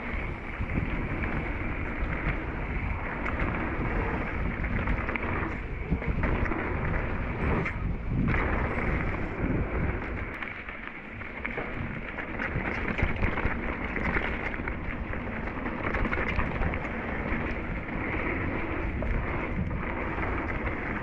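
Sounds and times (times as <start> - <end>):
bike rattling and knocking: 0.0 - 21.0
bike tyres rumbling: 0.0 - 21.0
wind on microphone: 0.0 - 21.0.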